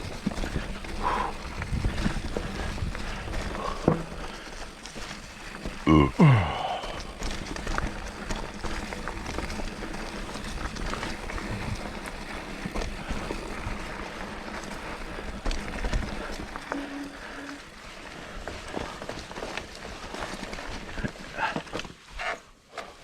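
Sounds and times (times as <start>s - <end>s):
bike rattling and knocking: 0.0s - 5.8s, 6.8s - 22.1s
bike tyres on dirt trail: 0.0s - 23.0s.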